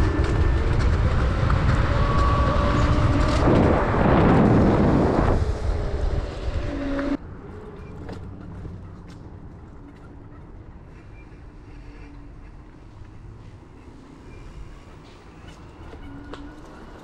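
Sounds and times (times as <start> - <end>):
road noise: 0.0 - 17.0
wind rumble on microphone: 0.0 - 17.0.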